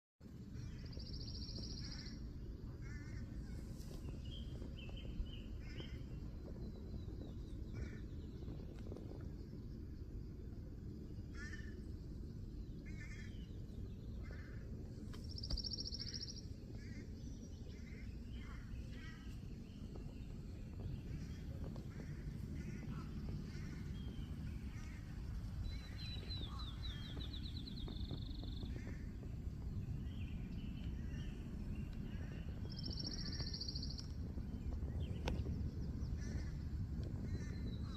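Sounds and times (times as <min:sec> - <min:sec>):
steady low rumble: 0:00.2 - 0:37.9
birds calling: 0:00.5 - 0:09.6, 0:11.2 - 0:37.9.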